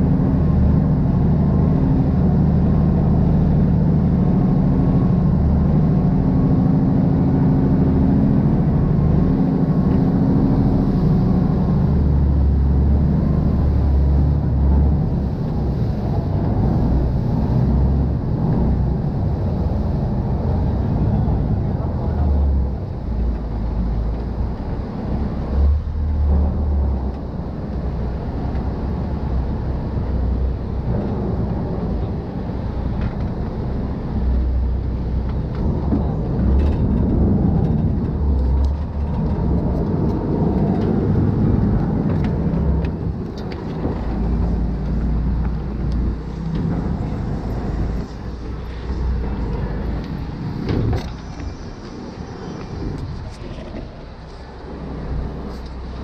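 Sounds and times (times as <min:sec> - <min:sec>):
low engine rumble: 0:00.0 - 0:56.0
wind and rushing noise: 0:00.0 - 0:56.0.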